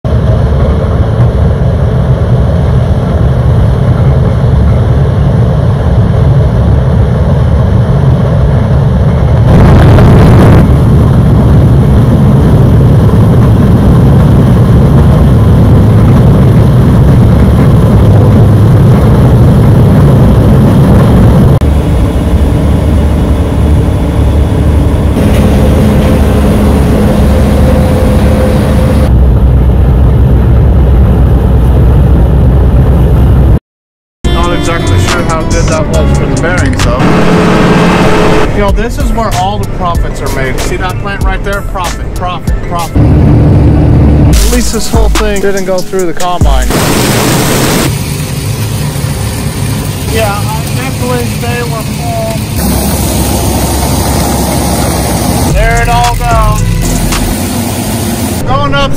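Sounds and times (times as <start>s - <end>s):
combine harvester rumble: 0.1s - 33.6s, 34.3s - 45.8s, 46.6s - 58.9s.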